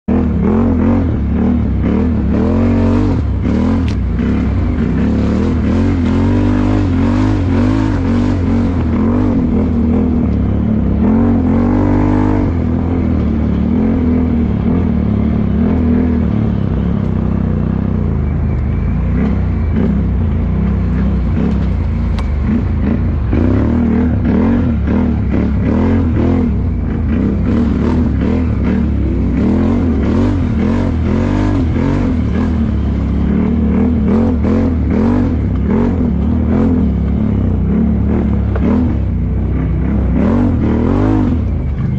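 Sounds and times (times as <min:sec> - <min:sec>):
atv engine revving: 0:00.0 - 0:41.9
low drone: 0:00.1 - 0:41.9.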